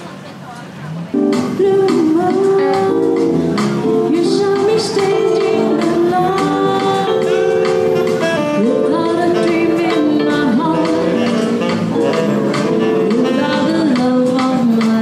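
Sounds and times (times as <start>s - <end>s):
keyboard: 0.9s - 15.0s
woman singing: 1.4s - 7.8s, 8.6s - 15.0s
saxophone: 1.4s - 15.0s.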